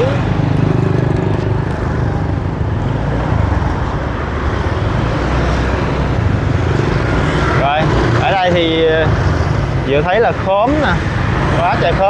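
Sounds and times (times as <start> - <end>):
road and wind noise hiss: 0.0 - 12.0
vehicle engine drone: 0.0 - 12.0.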